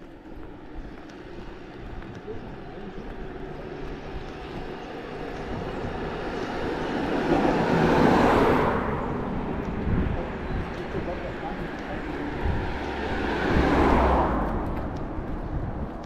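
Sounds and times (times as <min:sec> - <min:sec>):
vehicle passing by: 0:01.7 - 0:16.0.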